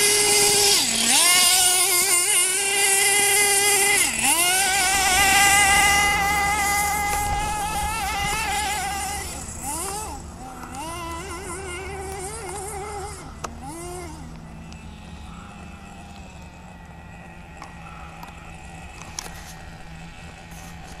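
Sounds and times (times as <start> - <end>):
toy car motor buzzing: 0.0 - 21.0.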